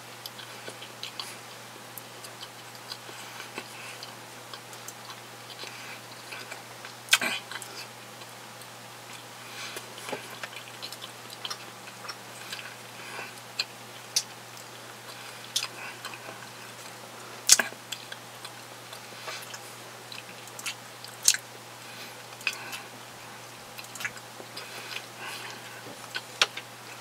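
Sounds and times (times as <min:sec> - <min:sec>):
mouth chewing food: 0:00.1 - 0:27.0.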